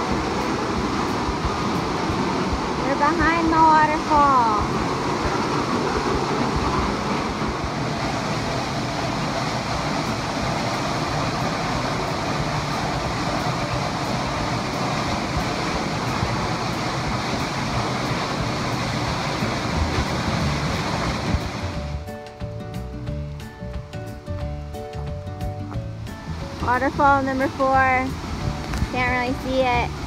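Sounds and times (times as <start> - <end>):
waterfall rushing: 0.0 - 22.1, 25.8 - 30.0.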